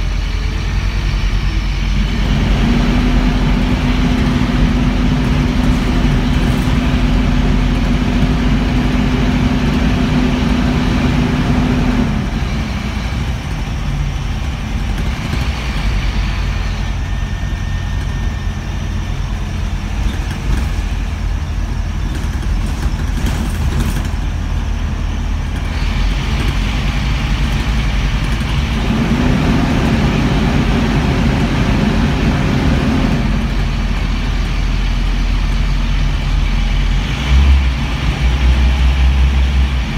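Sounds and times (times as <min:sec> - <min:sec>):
bus engine rumble: 0:00.0 - 0:39.9
humming tone: 0:00.0 - 0:39.9.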